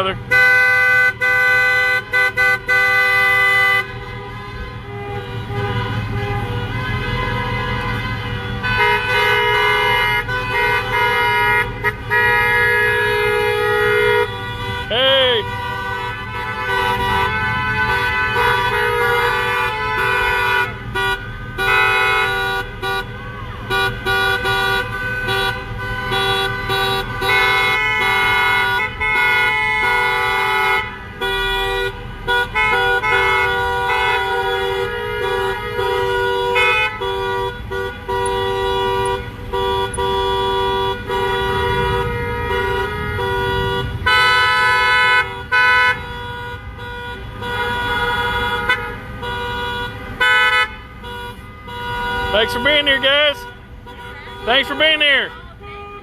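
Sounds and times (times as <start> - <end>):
car horns honking: 0.0 - 56.0
low rumble of traffic: 0.0 - 56.0.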